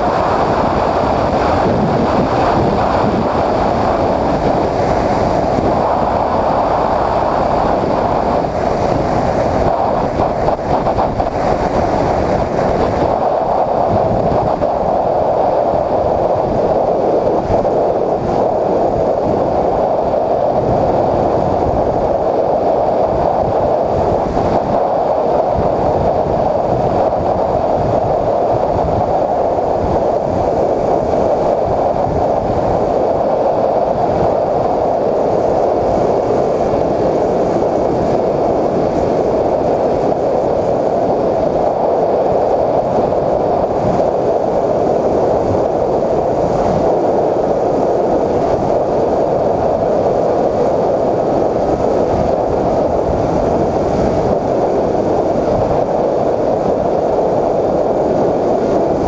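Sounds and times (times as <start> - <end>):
muffled airflow rush: 0.0 - 59.0.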